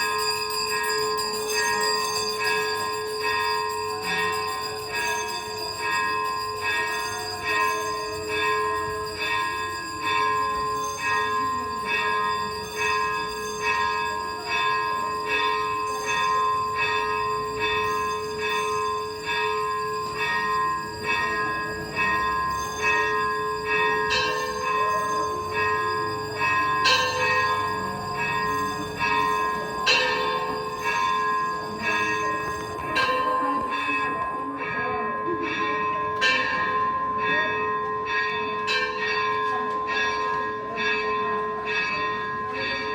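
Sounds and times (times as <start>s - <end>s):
bell ringing: 0.0s - 42.9s.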